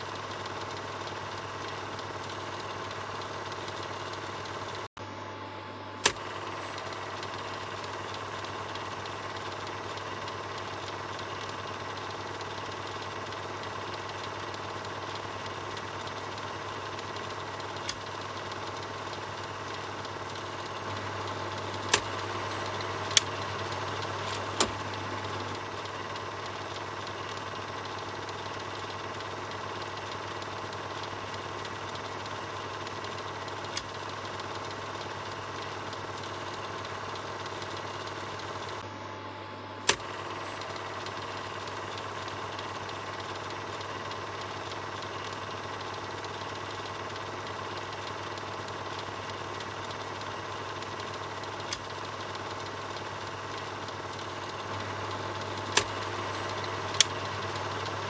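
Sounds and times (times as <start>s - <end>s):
film projector humming: 0.0s - 58.0s
sharp clicks: 6.0s - 38.8s, 39.8s - 58.0s.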